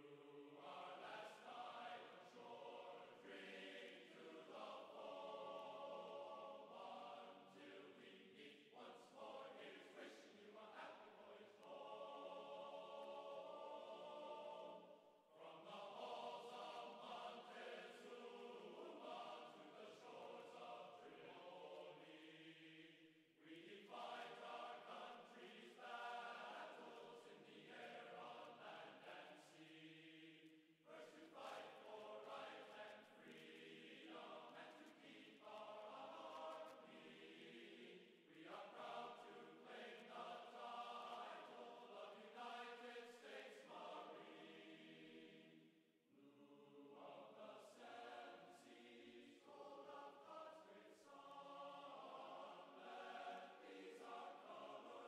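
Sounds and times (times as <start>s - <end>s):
choral chanting: 0.0s - 55.0s.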